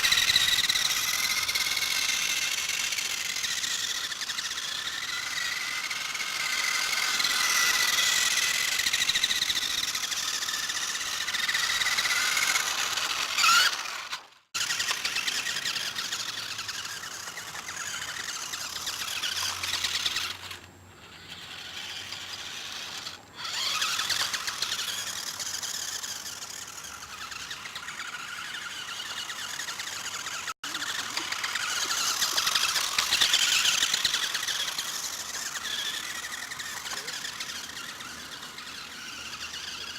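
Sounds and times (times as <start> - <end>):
toy car motor and gears whining: 0.0 - 39.9.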